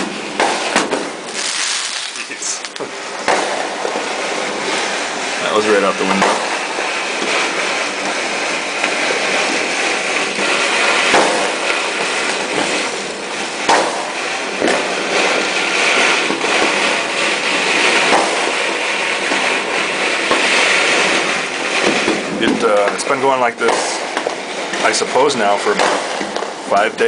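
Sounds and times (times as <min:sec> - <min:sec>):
distant fireworks crackling: 0:00.0 - 0:27.0
nearby firework bangs: 0:00.0 - 0:27.0.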